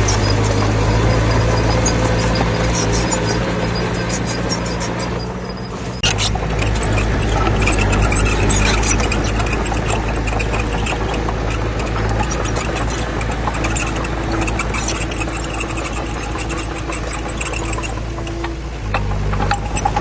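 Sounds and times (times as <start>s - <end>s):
diesel engine running: 0.0s - 20.0s
rattling and clanks: 0.0s - 20.0s.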